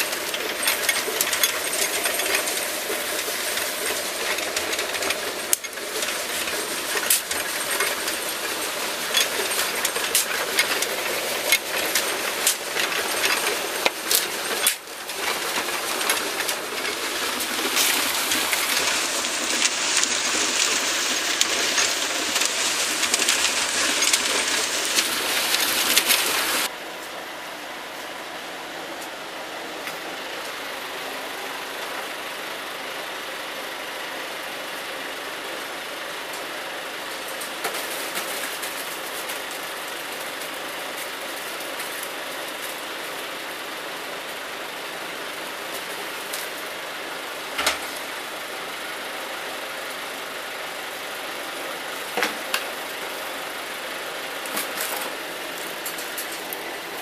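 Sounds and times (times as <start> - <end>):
cement mixer drum churning: 0.0 - 26.7, 35.3 - 57.0.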